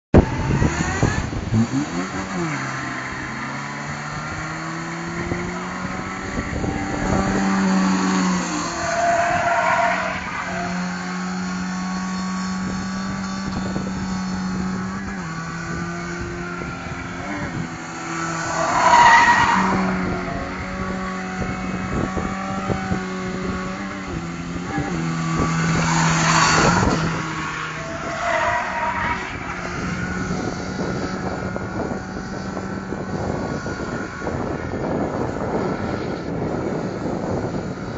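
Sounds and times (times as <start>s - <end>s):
truck engine at high revs: 0.0s - 37.9s.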